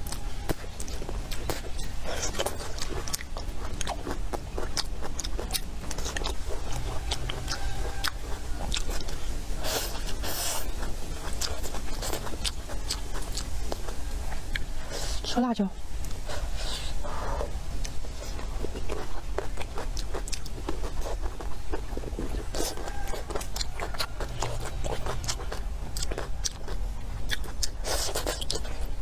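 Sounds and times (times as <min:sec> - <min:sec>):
person chewing with mouth clicks: 0:00.0 - 0:15.3, 0:16.0 - 0:29.0.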